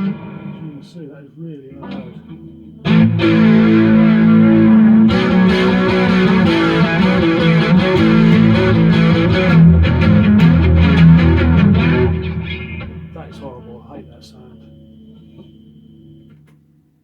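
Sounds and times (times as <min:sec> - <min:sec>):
distorted electric guitar: 0:00.0 - 0:16.8.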